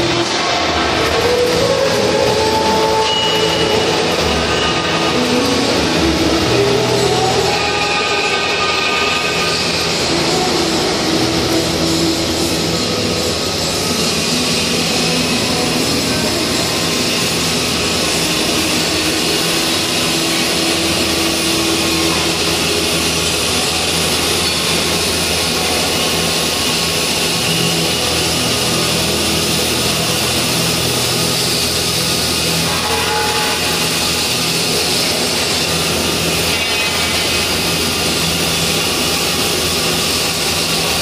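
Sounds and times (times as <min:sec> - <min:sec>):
welding arc hissing: 0:00.0 - 0:41.0.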